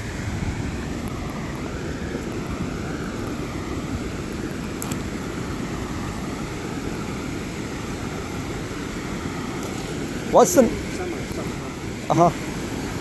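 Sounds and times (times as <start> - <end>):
river rushing over rocks: 0.0 - 13.0
wind rumble on microphone: 0.0 - 13.0.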